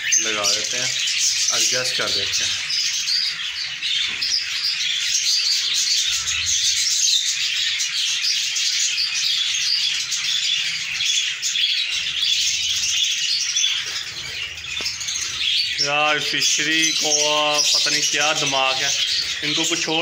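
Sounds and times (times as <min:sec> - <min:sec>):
small parrots chattering: 0:00.0 - 0:20.0.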